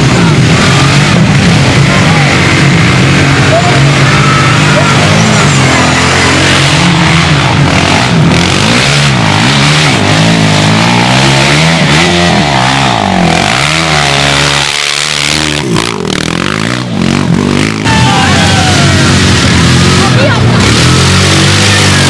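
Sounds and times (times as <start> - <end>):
quad bike engines revving: 0.0 - 22.0.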